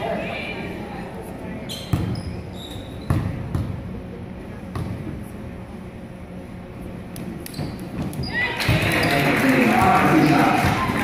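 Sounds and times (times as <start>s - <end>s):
murmur in gym: 0.0s - 11.0s.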